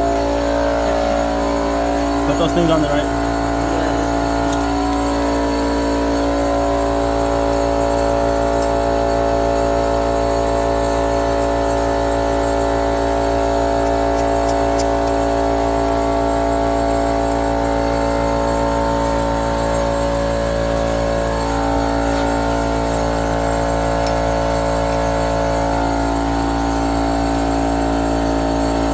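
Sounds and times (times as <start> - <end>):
air compressor running: 0.0 - 28.9.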